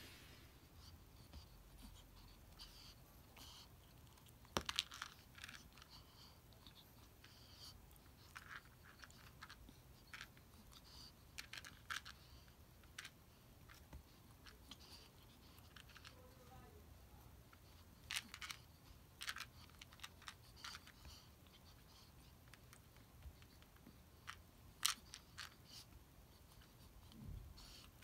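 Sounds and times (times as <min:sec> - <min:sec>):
kitten rustling and tapping: 0:03.4 - 0:16.4, 0:17.5 - 0:28.0.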